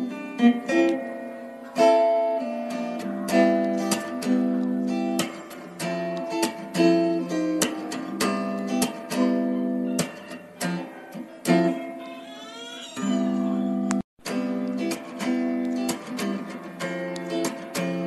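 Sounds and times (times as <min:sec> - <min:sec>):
acoustic guitar strumming chords: 0:00.0 - 0:12.4, 0:13.0 - 0:18.0.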